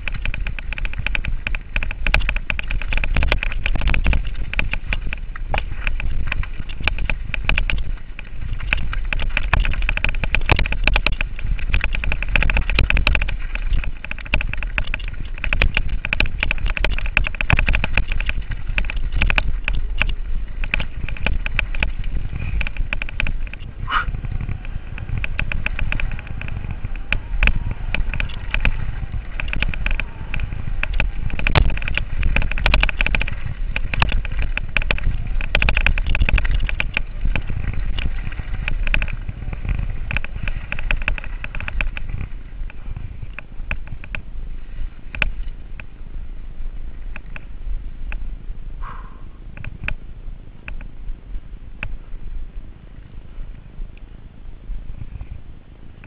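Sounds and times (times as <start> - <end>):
mountain bike rattling over rocks: 0.0 - 56.0
wind rumble on microphone: 0.0 - 56.0.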